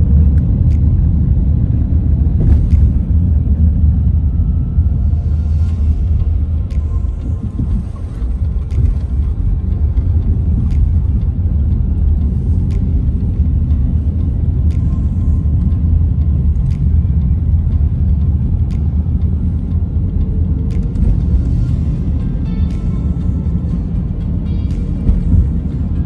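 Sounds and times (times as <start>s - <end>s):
engine and tyres rumbling: 0.0s - 26.0s
faint ticking: 2.4s - 26.0s.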